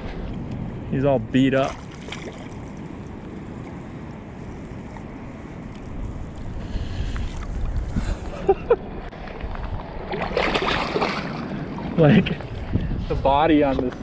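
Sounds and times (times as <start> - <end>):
wind buffeting microphone: 0.0 - 14.0
water: 1.3 - 12.9.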